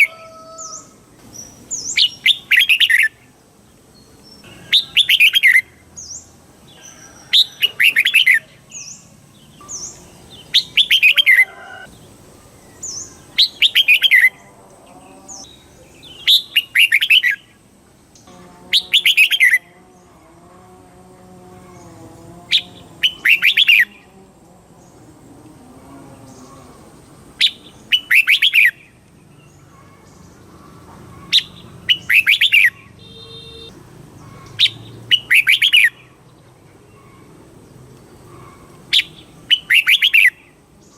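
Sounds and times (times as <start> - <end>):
bird singing phrases: 0.0 - 20.3, 21.6 - 40.9.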